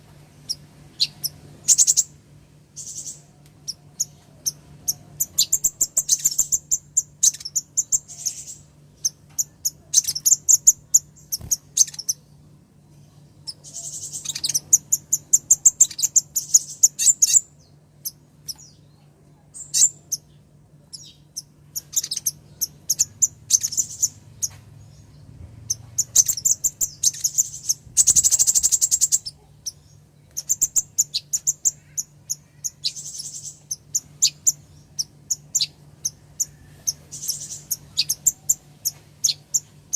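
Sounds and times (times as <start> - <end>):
bird chirping high and thin: 0.4 - 2.1, 2.8 - 12.3, 13.4 - 18.8, 20.9 - 24.6, 25.7 - 39.7.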